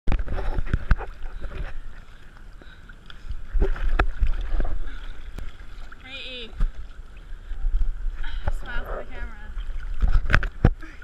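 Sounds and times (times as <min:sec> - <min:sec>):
sharp water splashes: 0:00.1 - 0:11.0
water slapping a surfboard: 0:00.1 - 0:11.0.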